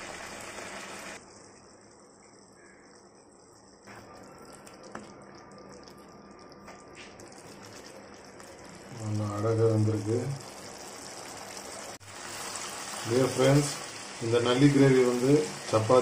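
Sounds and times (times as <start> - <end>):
gravy bubbling in a pan: 0.0 - 16.0.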